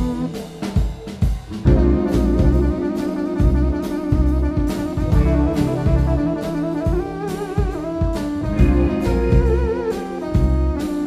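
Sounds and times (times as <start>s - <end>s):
bass guitar: 0.0s - 11.0s
drum hits: 0.0s - 11.0s
electric guitar: 0.0s - 11.0s
keyboard: 0.0s - 11.0s
wavering lead line: 0.0s - 11.0s.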